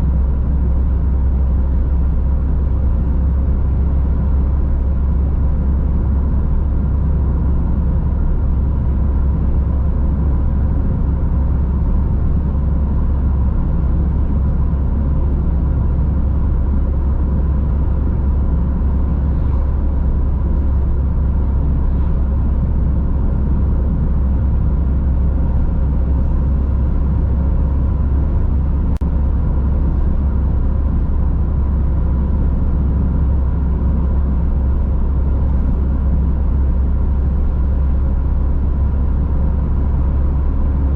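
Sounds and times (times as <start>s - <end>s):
tyre and engine rumble: 0.0s - 40.9s.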